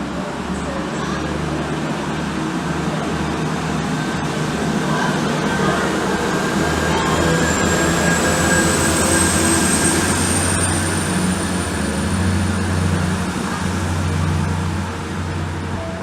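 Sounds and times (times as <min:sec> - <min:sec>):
train engine hum: 0:00.0 - 0:16.0
train rushing noise: 0:00.0 - 0:16.0
high whine: 0:02.9 - 0:16.0.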